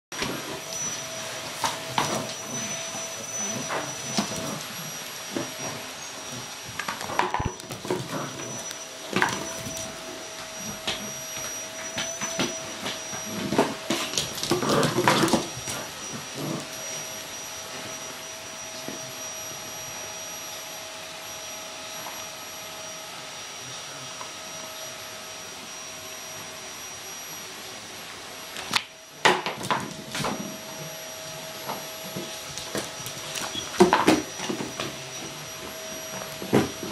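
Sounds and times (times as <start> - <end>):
vacuum cleaner running: 0.1 - 36.9.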